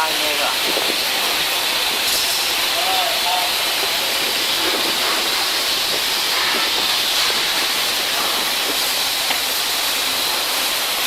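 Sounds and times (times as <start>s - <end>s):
cutting torch flame hissing: 0.0s - 11.0s.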